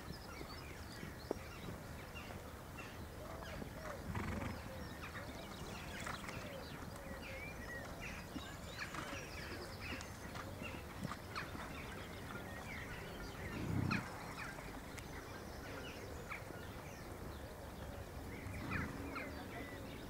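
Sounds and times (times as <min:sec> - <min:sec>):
steady outdoor hiss: 0:00.0 - 0:20.0
wild birds chirping and singing: 0:00.0 - 0:20.0.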